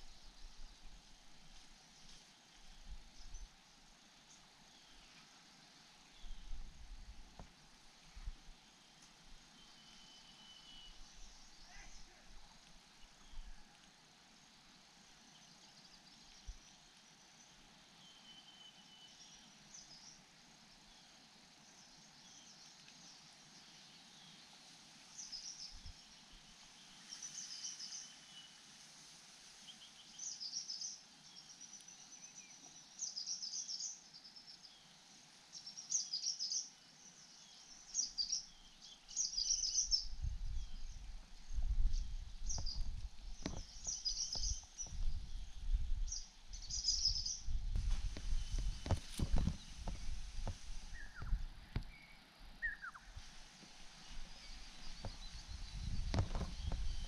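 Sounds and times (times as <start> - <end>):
songbird singing: 1.8 - 13.8, 14.4 - 28.6, 29.6 - 57.0.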